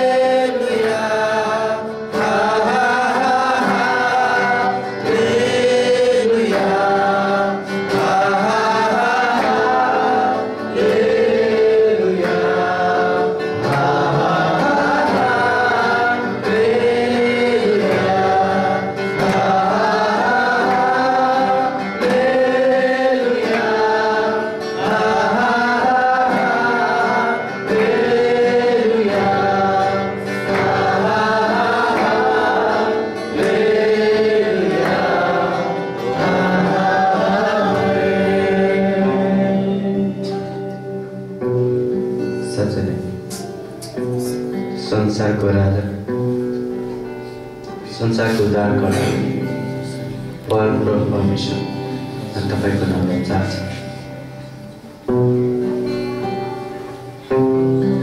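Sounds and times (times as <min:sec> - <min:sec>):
group singing praise song: 0:00.0 - 0:42.2, 0:46.9 - 0:58.0
acoustic guitar: 0:00.0 - 0:58.0.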